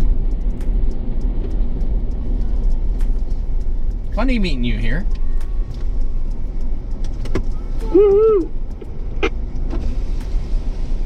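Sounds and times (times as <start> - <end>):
small clicks and rattles: 0.0 - 10.4
vehicle engine rumble: 0.0 - 11.0.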